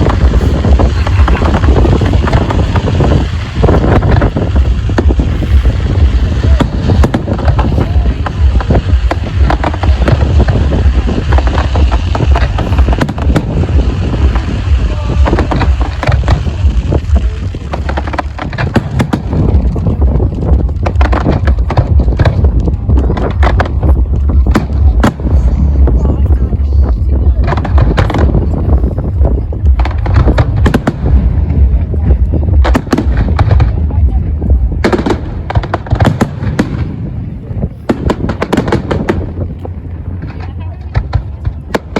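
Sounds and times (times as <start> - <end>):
fireworks bangs and crackles: 0.0 - 41.9
wind buffeting microphone: 0.0 - 41.9.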